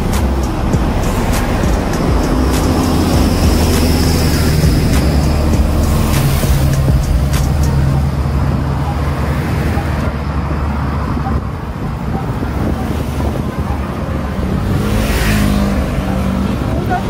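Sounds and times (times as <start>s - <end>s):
low rumble of passing traffic: 0.0s - 17.0s
truck engine humming: 0.0s - 17.0s.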